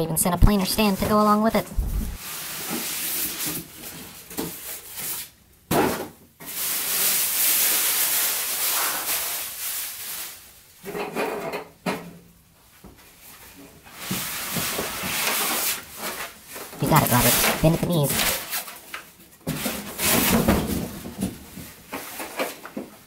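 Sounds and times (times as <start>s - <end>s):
cardboard and packing rustling: 0.4s - 10.4s, 13.0s - 23.0s.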